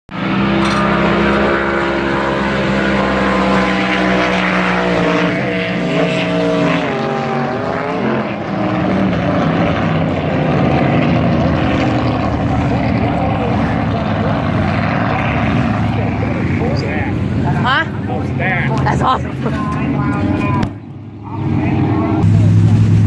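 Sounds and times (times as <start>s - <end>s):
racing boat engines: 0.1s - 23.0s.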